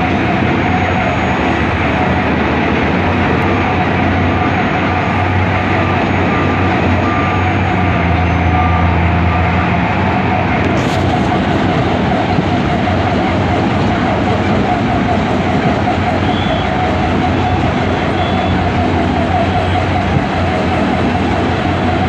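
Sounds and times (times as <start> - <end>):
excavator engine droning: 0.0 - 22.0
mechanical background noise: 0.0 - 22.0.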